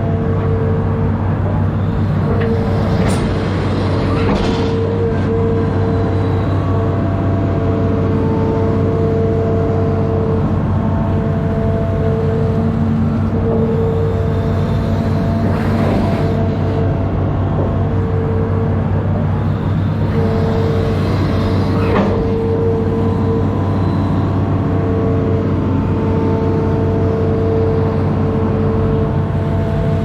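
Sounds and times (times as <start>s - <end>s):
diesel engine running: 0.0s - 30.0s
steady whine: 0.0s - 30.0s.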